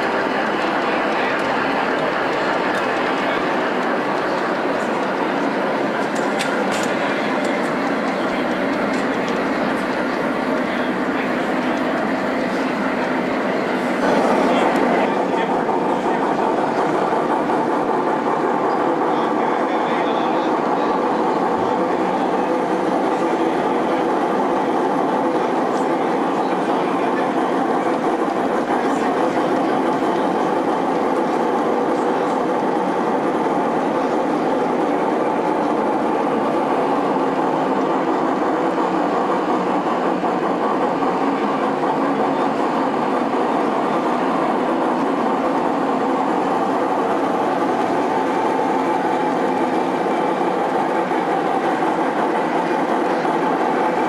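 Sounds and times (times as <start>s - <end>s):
exhibition hall din: 0.0s - 54.0s
model steam train running: 0.0s - 54.0s.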